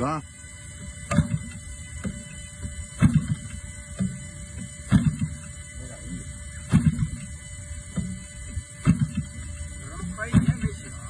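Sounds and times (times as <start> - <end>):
model engine sputtering: 0.0 - 11.0.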